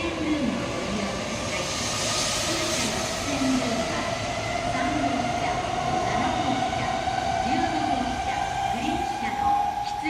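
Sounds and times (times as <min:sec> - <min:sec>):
train rushing rail noise: 0:00.0 - 0:10.0.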